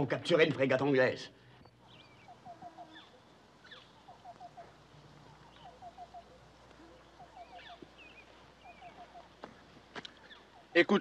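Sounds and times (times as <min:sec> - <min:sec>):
higher bird chirps: 0:01.5 - 0:10.9.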